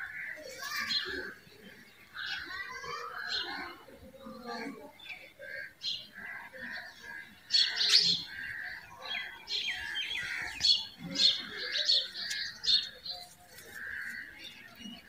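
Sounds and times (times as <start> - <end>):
birds chirping and twittering: 0.0 - 15.0.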